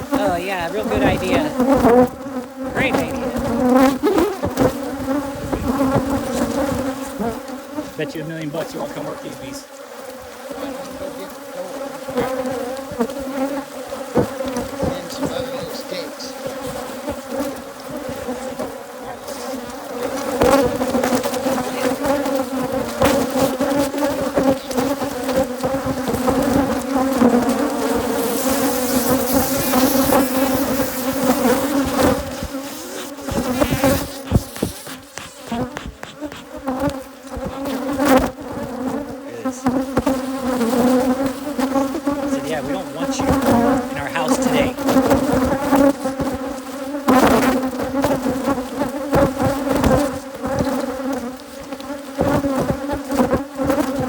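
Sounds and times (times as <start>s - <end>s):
honeybees buzzing: 0.0s - 54.0s.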